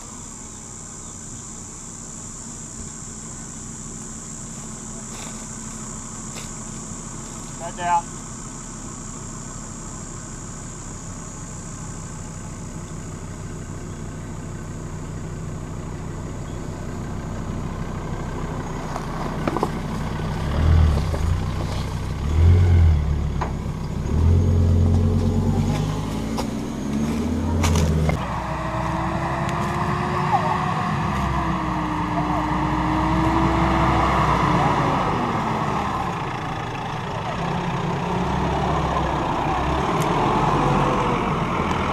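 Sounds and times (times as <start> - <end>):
four-wheel-drive engine revving: 2.2 - 41.9.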